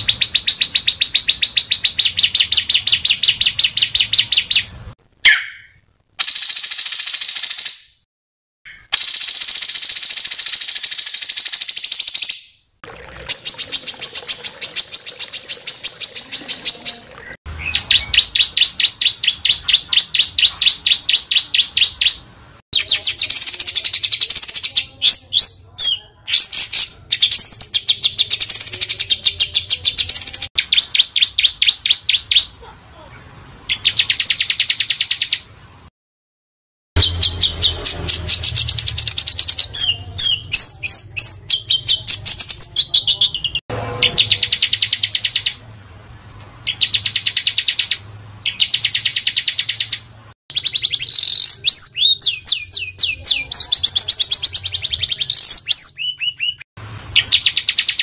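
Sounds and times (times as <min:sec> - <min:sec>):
small songbirds singing: 0:00.0 - 0:04.7, 0:08.7 - 0:12.6, 0:13.2 - 0:35.5, 0:37.0 - 0:45.6, 0:46.6 - 0:58.0.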